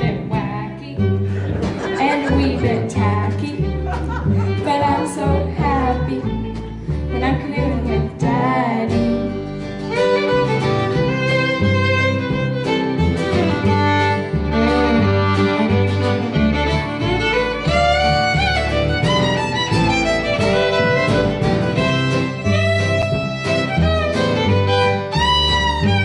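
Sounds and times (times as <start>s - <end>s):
fiddle melody: 0.0s - 26.0s
upright bass notes: 0.0s - 26.0s.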